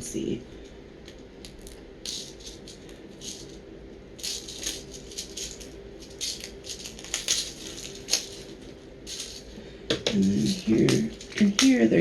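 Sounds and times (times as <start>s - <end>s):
beads rattling in case: 1.4s - 11.7s.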